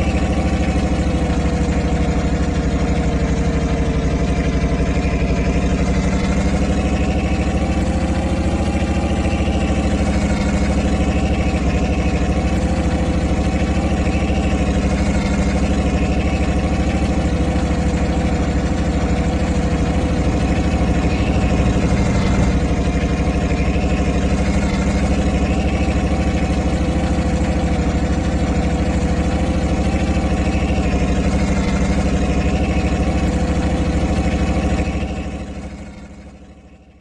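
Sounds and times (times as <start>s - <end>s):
diesel truck engine idling: 0.0s - 37.0s.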